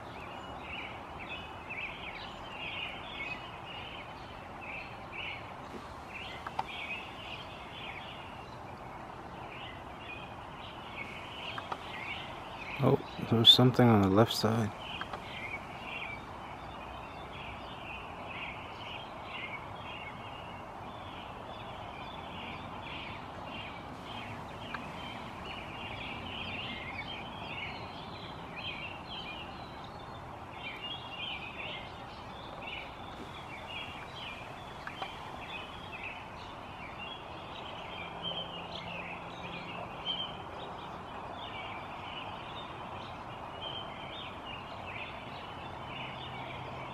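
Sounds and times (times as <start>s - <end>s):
birds chirping and singing: 0.0s - 46.9s
outdoor background hiss: 0.0s - 46.9s.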